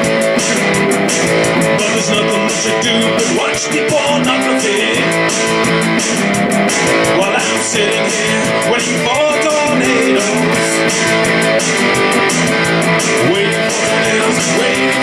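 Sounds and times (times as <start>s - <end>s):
electric guitar strumming: 0.0s - 15.0s.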